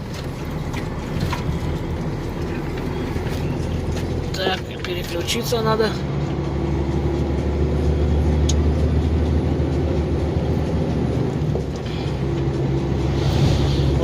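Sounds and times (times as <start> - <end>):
road noise: 0.0 - 14.0
truck diesel engine running: 0.0 - 14.0.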